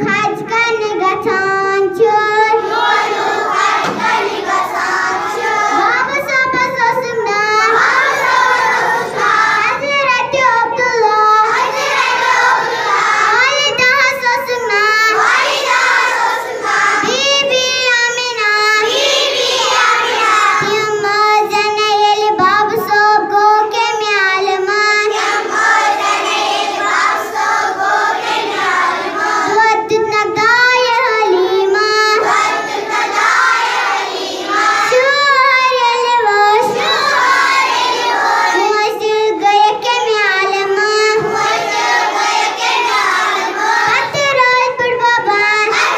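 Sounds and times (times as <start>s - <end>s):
child singing into microphone: 0.0s - 45.9s.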